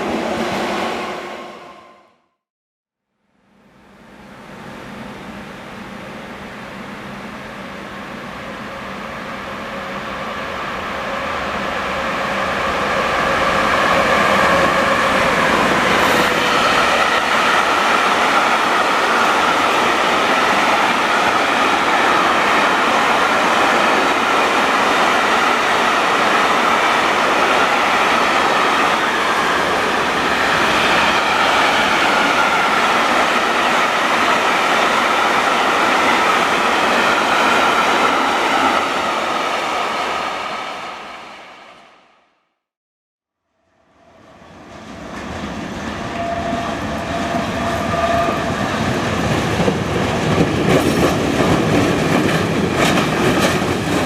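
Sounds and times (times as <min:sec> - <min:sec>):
train wheels rumbling on rail: 0:05.8 - 0:41.0, 0:44.0 - 0:54.0.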